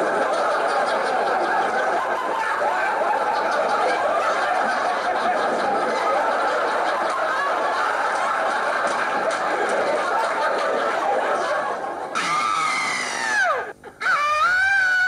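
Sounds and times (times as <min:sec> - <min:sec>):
crowd laughing: 0:00.0 - 0:15.0.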